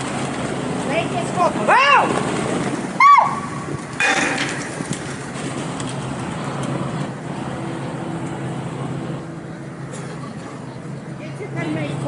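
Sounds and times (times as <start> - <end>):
engine hum: 0.0 - 12.0
rumble of passing vehicles: 0.0 - 12.0.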